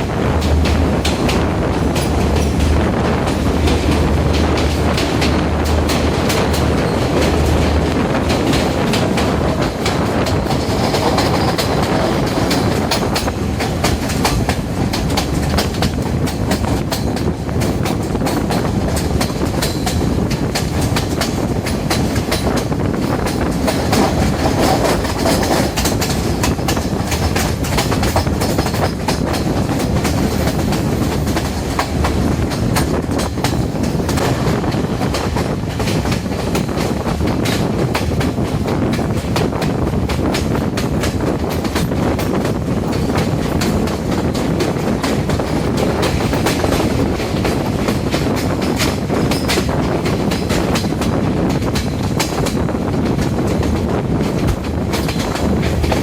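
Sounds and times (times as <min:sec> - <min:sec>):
diesel train rumble: 0:00.0 - 0:56.0
wheels clicking over rail joints: 0:00.4 - 0:56.0.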